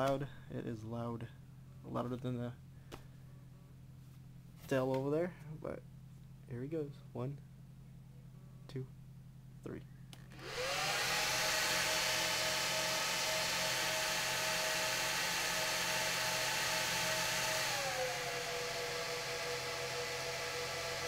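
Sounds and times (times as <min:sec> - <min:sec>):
server fans whirring: 0:00.0 - 0:21.0.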